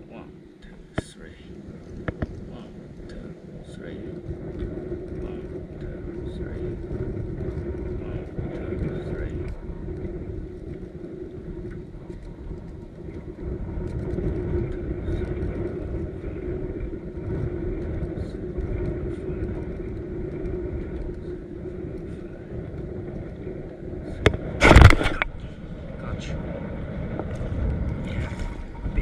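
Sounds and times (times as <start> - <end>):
water noise: 0.0 - 29.0
wind: 0.0 - 29.0.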